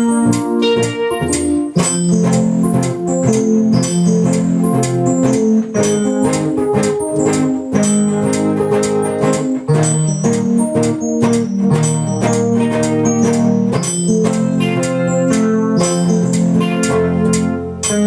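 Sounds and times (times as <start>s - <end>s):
organ-like keyboard chords: 0.0s - 18.0s
percussive beat: 0.0s - 18.0s.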